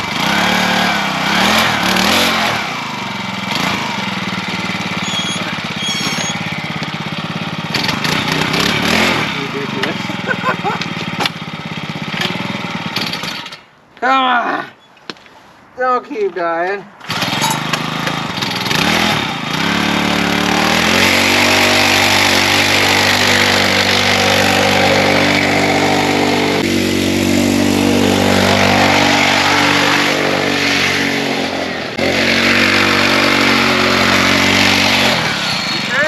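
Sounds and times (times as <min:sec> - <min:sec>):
small engine revving: 0:00.0 - 0:13.6, 0:17.0 - 0:36.0.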